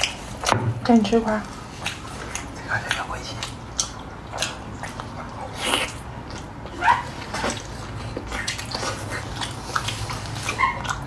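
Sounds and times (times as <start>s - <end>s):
wet chewing and slurping: 0.0s - 11.0s.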